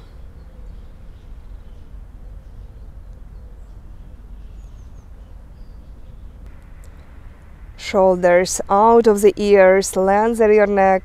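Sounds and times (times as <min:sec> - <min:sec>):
low rumble: 0:01.4 - 0:11.0.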